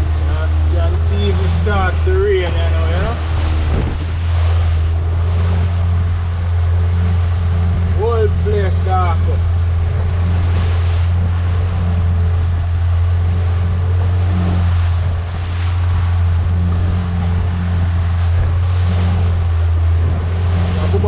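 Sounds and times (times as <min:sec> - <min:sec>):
wind on microphone: 0:00.0 - 0:08.7, 0:09.3 - 0:21.0
boat engine humming: 0:00.0 - 0:21.0
sea: 0:00.0 - 0:21.0.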